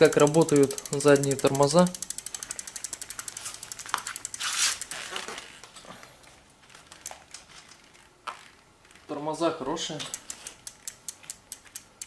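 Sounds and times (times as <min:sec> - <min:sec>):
bicycle freewheel clicking: 0:00.0 - 0:09.1, 0:09.8 - 0:12.0.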